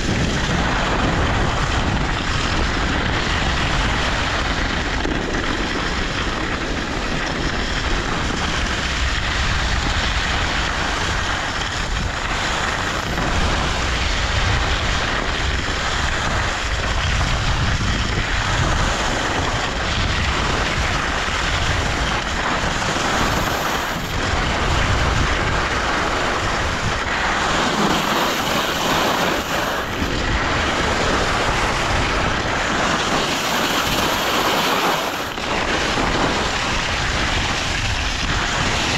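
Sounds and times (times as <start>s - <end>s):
skis sliding on snow: 0.0s - 38.9s
wind rushing over microphone: 0.0s - 38.9s.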